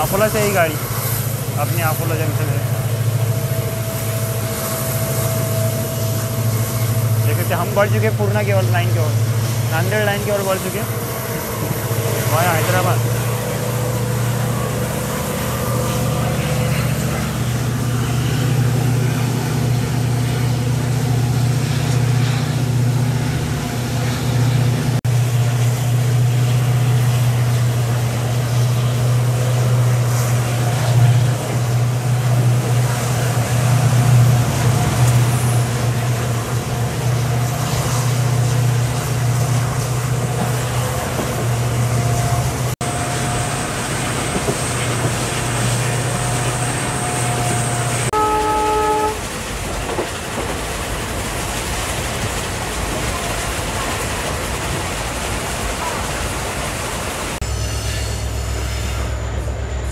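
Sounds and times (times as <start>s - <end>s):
train running low drone: 0.0s - 59.9s.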